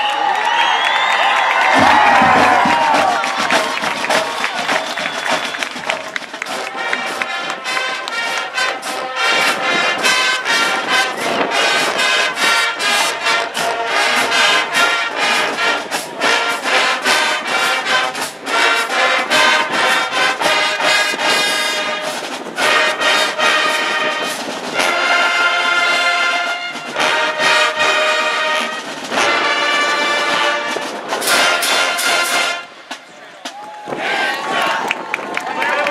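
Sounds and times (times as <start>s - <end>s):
marching band playing: 0.2s - 35.1s.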